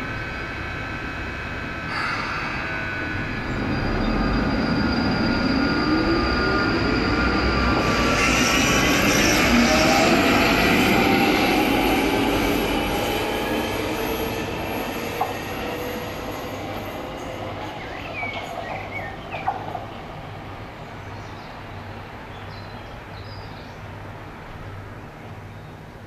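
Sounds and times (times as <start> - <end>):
train rumble and whine: 0.0 - 26.0.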